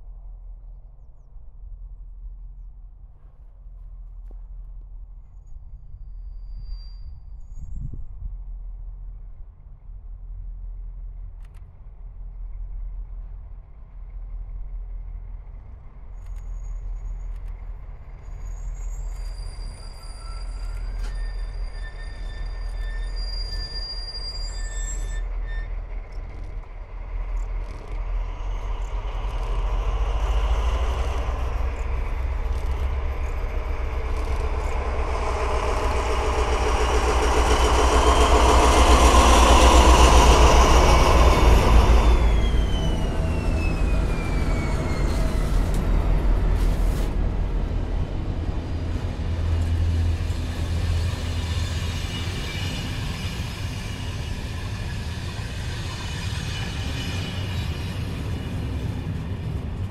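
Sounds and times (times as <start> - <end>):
diesel train passing: 7.7 - 59.9.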